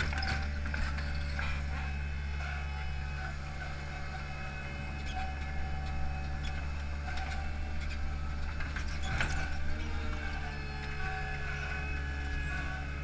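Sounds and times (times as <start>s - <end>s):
paving machine engine running: 0.0s - 13.0s.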